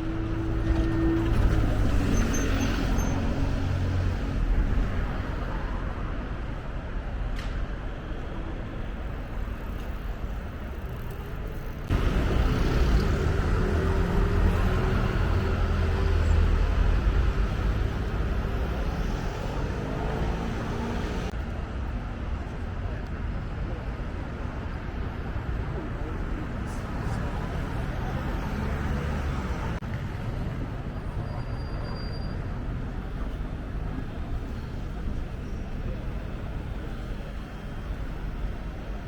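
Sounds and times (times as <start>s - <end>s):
road vehicles rumbling: 0.0s - 39.0s.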